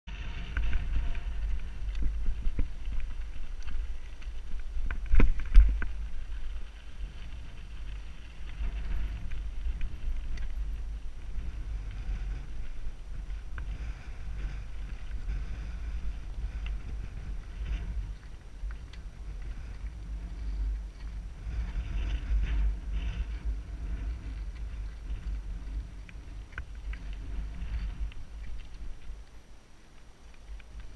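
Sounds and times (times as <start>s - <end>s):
wind rumble on microphone: 0.0s - 30.9s
bike tyre and frame rattle: 0.1s - 30.9s.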